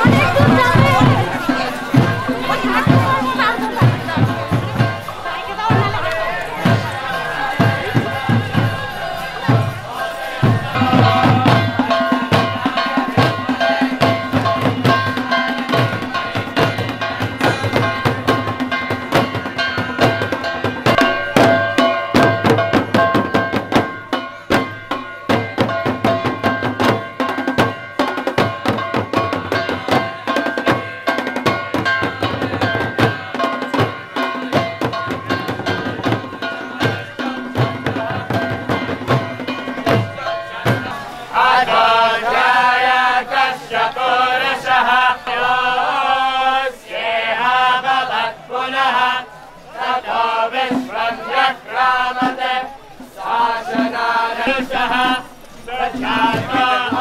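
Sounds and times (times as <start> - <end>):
hand drums playing: 0.0 - 46.6, 49.6 - 57.0
voices singing: 0.0 - 57.0.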